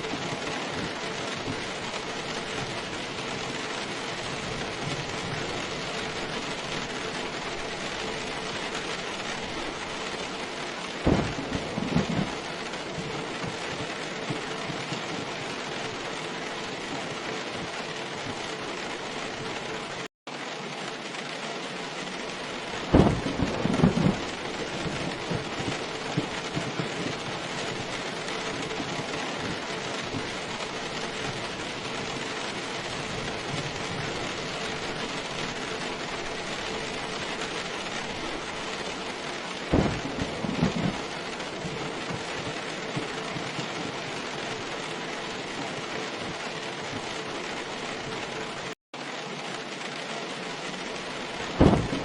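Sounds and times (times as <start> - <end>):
thunder clap: 0.0 - 20.1, 22.0 - 48.7, 50.6 - 52.0
heavy rain: 0.0 - 52.0.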